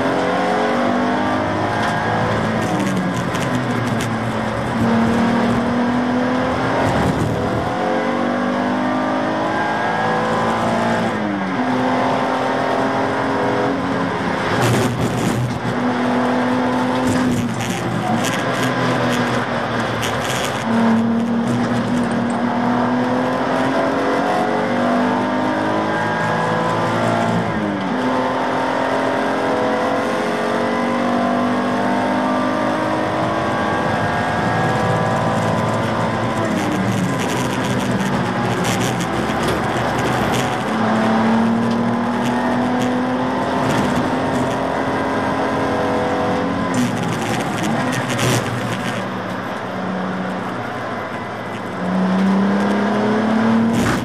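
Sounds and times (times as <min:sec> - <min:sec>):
race car engine revving: 0:00.0 - 0:54.0
wind and road noise: 0:00.0 - 0:54.0.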